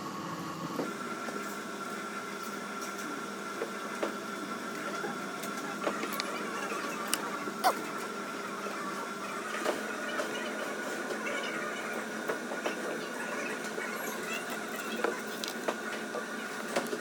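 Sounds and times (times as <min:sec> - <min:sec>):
machine hum with whine: 0:00.0 - 0:17.0.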